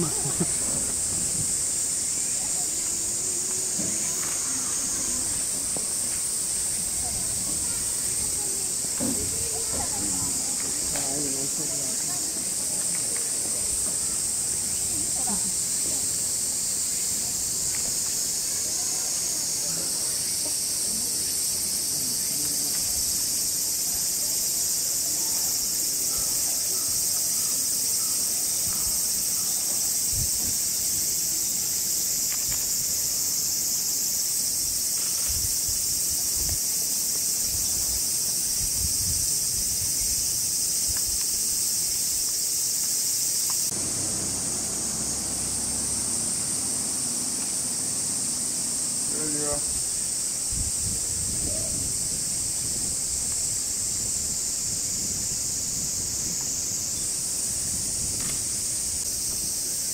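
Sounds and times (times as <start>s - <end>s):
insect chorus buzzing: 0.0s - 59.9s.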